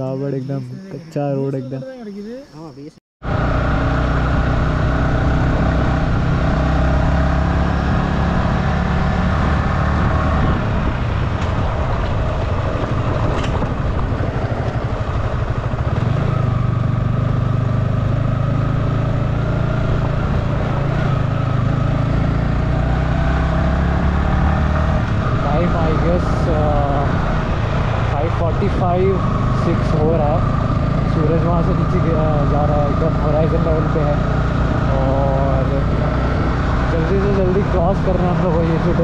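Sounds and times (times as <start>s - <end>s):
wind and road noise: 0.0s - 39.0s
motorcycle engine running: 3.2s - 39.0s.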